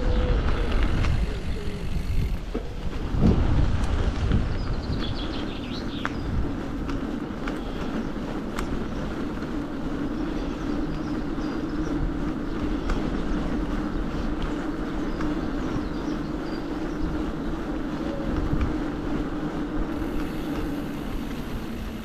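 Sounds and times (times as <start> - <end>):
bike rumbling on rough path: 0.0 - 22.0.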